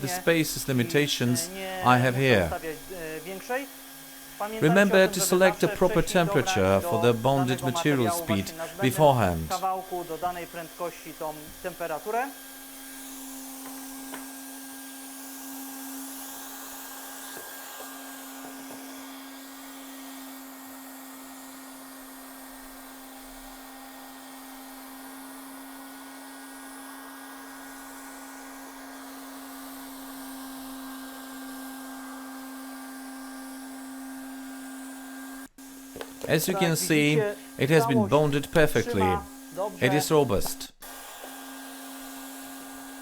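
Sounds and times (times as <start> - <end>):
hot-air welder blower hissing: 0.0 - 43.0
welder motor humming: 0.0 - 43.0.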